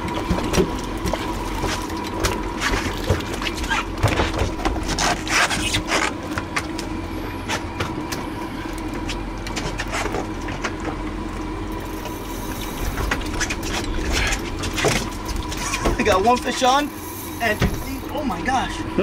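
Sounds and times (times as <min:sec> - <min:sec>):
water splashing against hull: 0:00.0 - 0:18.5
outboard engine idling: 0:00.0 - 0:19.0.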